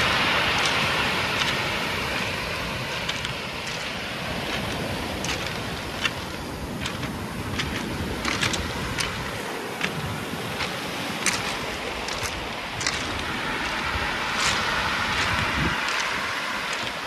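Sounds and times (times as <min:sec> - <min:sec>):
surf over pebble beach: 0:00.0 - 0:17.0.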